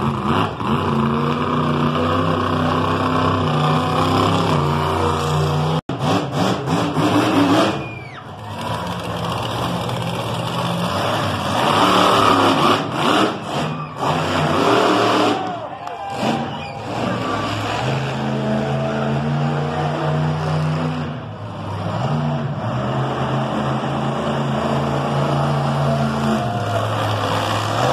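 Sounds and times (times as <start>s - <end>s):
monster truck engines revving: 0.0s - 27.9s.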